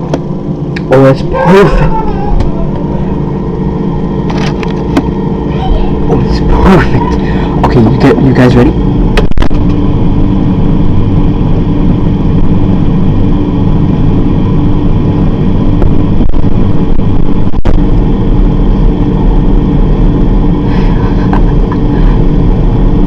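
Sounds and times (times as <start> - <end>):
refrigerator motor hum: 0.0 - 23.0.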